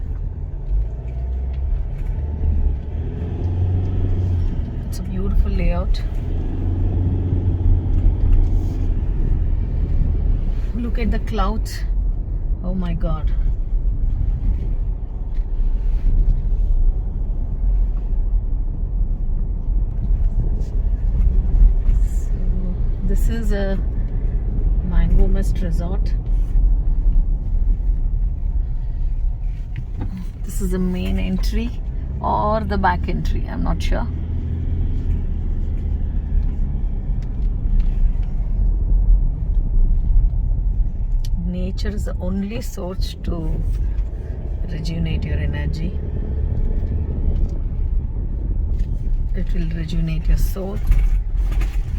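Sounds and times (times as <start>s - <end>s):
car driving heard from inside: 0.0s - 51.9s.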